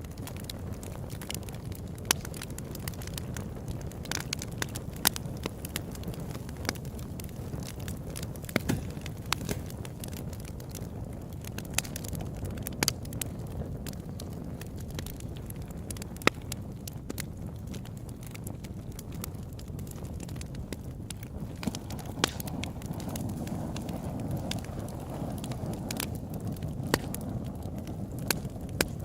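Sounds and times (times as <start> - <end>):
wood crackling and popping: 0.0 - 29.0.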